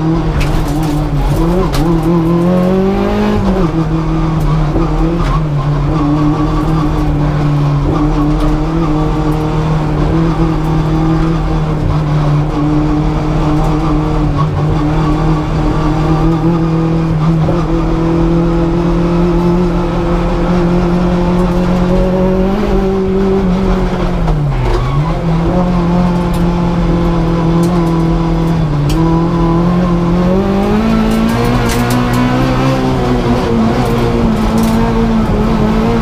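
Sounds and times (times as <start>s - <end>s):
race car engine revving: 0.0s - 36.0s.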